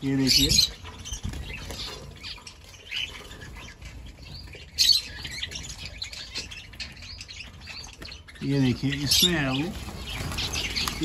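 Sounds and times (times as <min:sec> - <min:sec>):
small birds chirping and squawking: 0:00.0 - 0:11.0.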